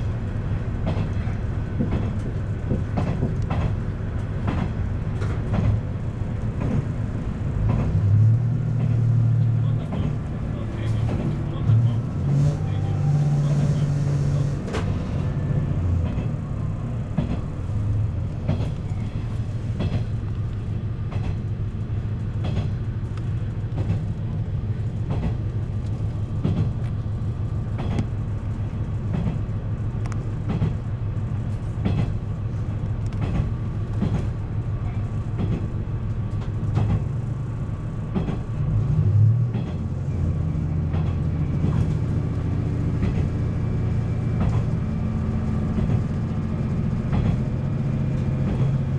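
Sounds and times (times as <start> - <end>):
wheels clicking over rail joints: 0.0 - 12.0, 15.9 - 48.9
diesel railcar engine: 0.0 - 48.9.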